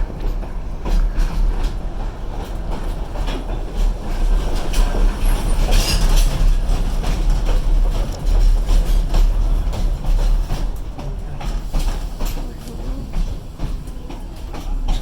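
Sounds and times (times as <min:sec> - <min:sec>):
train rumble: 0:00.0 - 0:15.0
train wheels clacking: 0:00.0 - 0:15.0.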